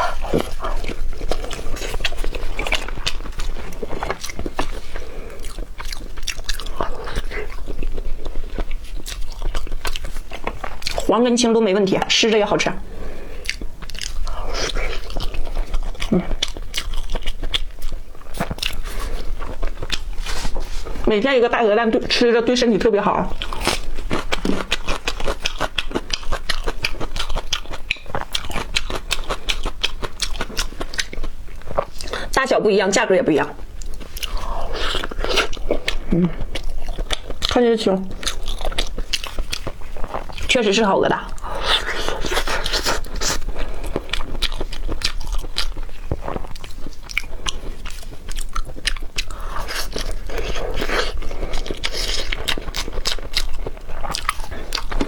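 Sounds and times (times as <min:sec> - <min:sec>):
wet chewing and mouth clicks: 0:00.0 - 0:55.0.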